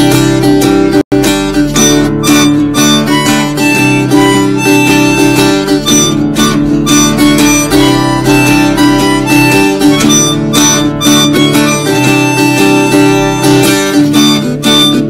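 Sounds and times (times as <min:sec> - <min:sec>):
acoustic guitar: 0:00.0 - 0:15.0
harmonica melody: 0:00.0 - 0:15.0.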